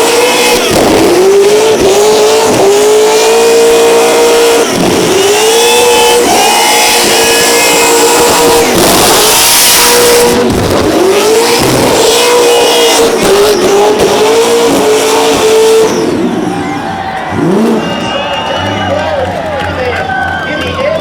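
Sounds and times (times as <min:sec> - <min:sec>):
car engine revving hard: 0:00.0 - 0:19.7.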